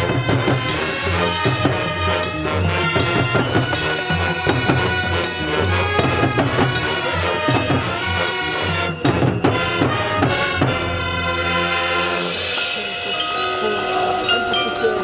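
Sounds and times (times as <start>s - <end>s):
brass and wind chords: 0.0s - 15.0s
marching band playing: 0.0s - 15.0s
percussion hits: 0.0s - 15.0s.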